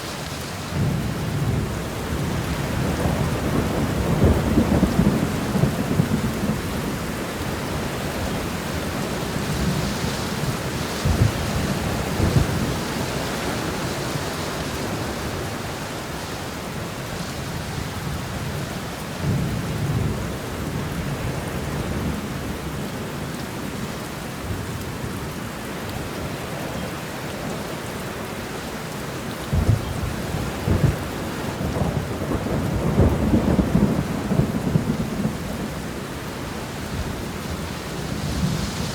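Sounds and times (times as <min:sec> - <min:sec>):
rain hissing: 0:00.0 - 0:38.9.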